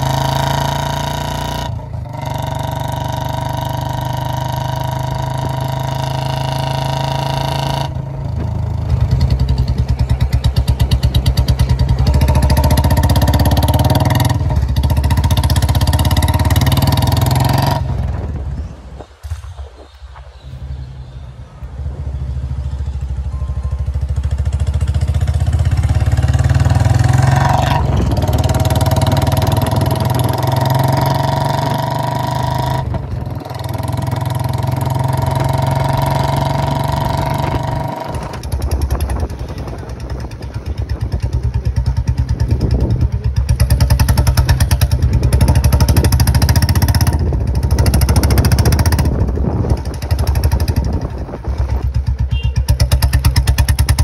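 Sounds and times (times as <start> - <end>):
motorcycle engine exhaust beat: 0.0 - 19.6, 22.1 - 54.0.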